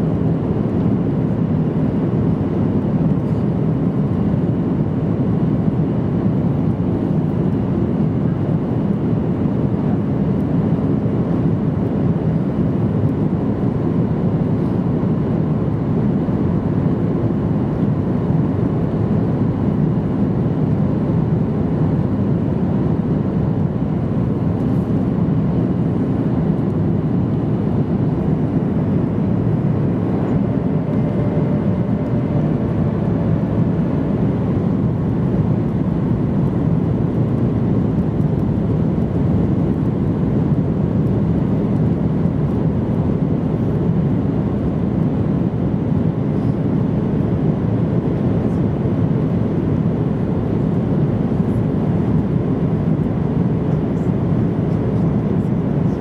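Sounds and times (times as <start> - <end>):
airplane cabin roar: 0.0 - 56.0.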